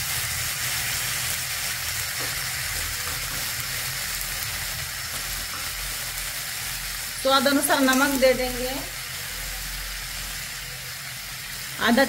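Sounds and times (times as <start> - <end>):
paste sizzling in oil: 0.0 - 12.0.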